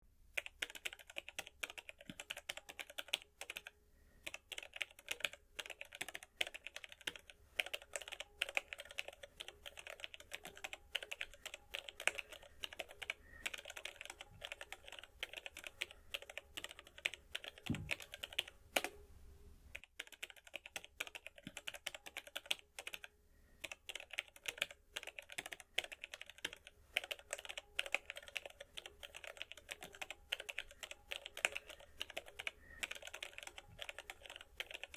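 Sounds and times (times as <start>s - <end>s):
keyboard typing clicks: 0.4s - 19.0s, 19.7s - 34.9s.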